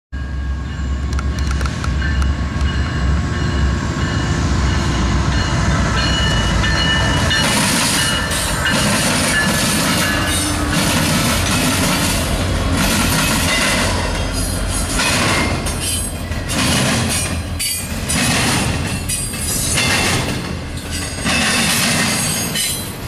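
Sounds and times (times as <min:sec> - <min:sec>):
diesel locomotive rumble: 0:00.2 - 0:23.0
train wheels clattering over rails: 0:01.1 - 0:23.0.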